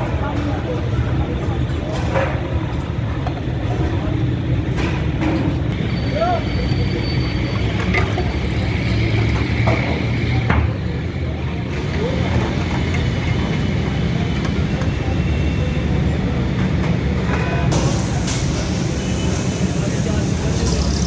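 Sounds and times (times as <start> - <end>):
people's voices: 0.0 - 21.0
road traffic rumble: 0.0 - 21.0.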